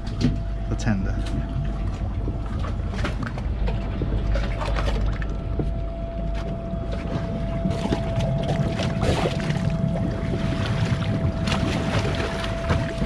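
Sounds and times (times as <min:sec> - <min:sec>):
hydraulic whine: 0:00.0 - 0:13.0
low rumble: 0:00.0 - 0:13.0
water sloshing and trickling: 0:00.0 - 0:13.0.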